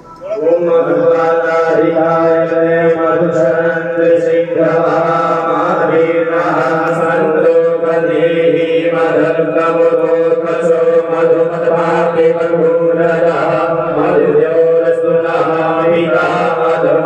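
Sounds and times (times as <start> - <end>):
person chanting mantras: 0.0 - 17.0.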